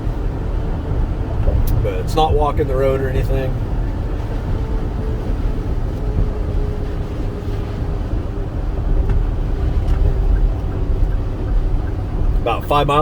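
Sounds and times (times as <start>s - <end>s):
diesel truck engine rumble: 0.0s - 13.0s
road noise: 0.0s - 13.0s.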